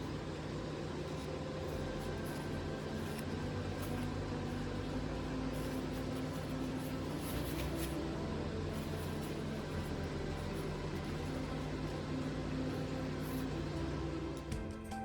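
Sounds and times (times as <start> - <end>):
wood lathe motor humming: 0.0 - 14.8.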